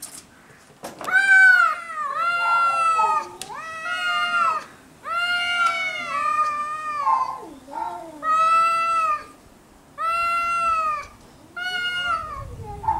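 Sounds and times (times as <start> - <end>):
cats yowling: 1.1 - 9.4, 10.0 - 12.9.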